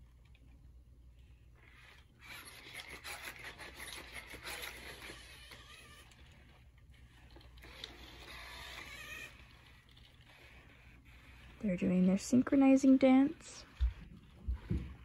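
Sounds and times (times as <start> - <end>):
robot dog motors rasping: 1.5 - 15.0.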